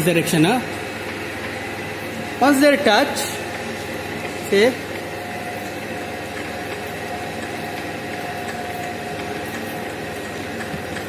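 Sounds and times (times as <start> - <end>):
milling machine cutting metal: 0.0 - 11.0.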